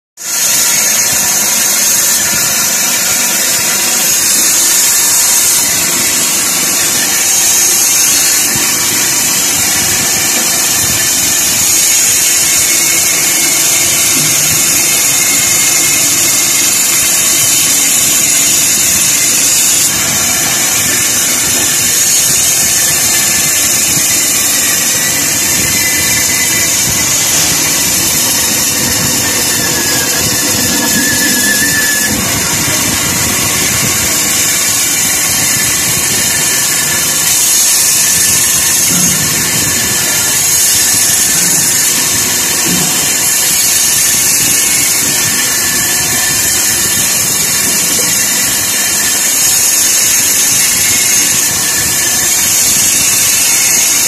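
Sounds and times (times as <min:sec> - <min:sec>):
band saw cutting wood blocks: 0:00.2 - 0:54.0.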